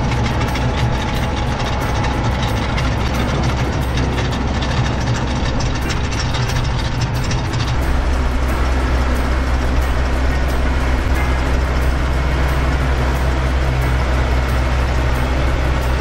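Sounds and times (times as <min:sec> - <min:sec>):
rotor churning wet soil: 0:00.0 - 0:16.0
tractor engine running under load: 0:00.0 - 0:16.0.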